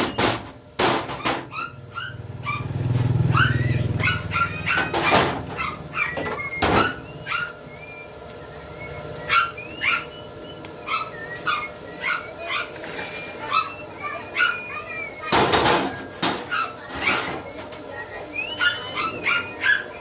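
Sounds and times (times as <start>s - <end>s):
dog whimpering: 1.5s - 8.0s, 8.9s - 15.3s, 16.0s - 20.0s.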